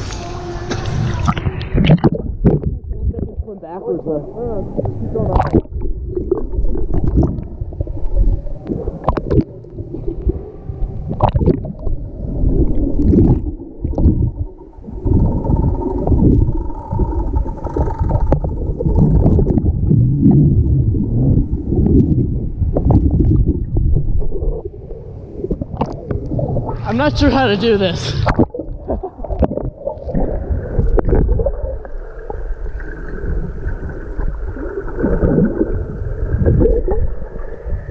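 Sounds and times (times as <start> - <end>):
muffled underwater churning: 0.0 - 37.9.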